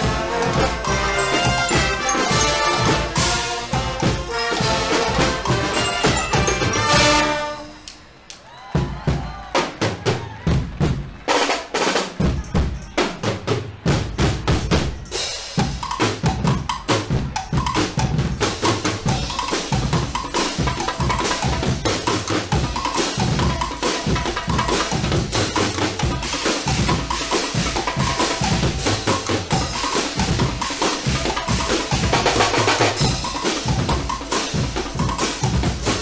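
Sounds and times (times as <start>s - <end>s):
fast drumming: 0.0s - 7.6s, 8.6s - 36.0s.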